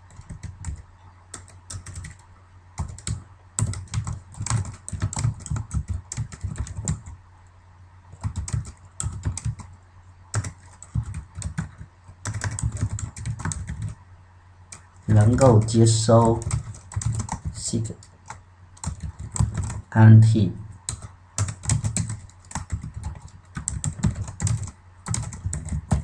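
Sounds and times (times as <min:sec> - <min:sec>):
keyboard typing: 0:00.0 - 0:07.2, 0:08.1 - 0:14.0, 0:14.7 - 0:19.9, 0:20.8 - 0:26.0.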